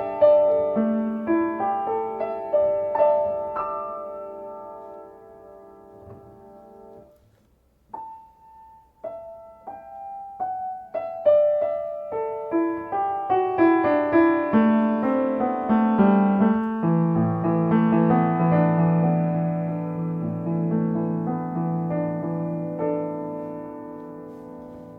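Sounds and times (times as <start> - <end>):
solo piano: 0.0 - 24.9.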